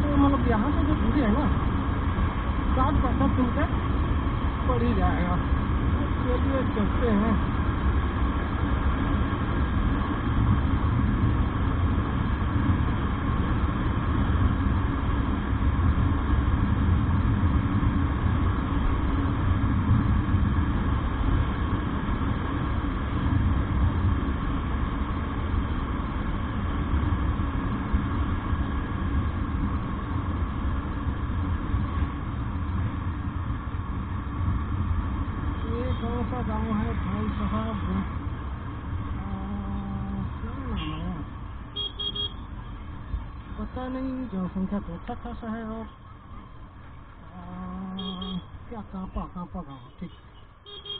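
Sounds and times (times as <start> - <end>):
motorcycle engine rumble: 0.0 - 50.9
road noise: 0.0 - 50.9.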